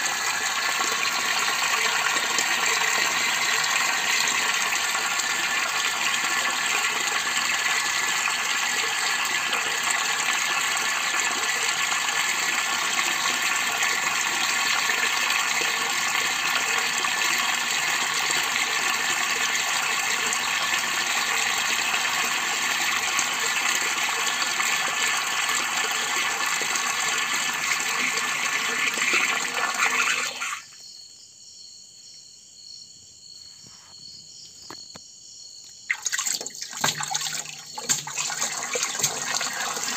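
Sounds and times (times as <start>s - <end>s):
water gushing into a plastic drum: 0.0s - 30.7s, 35.9s - 39.9s.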